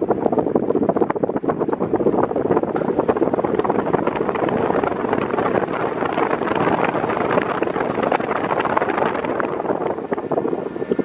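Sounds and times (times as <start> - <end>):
electric fan air rush: 0.0 - 11.0.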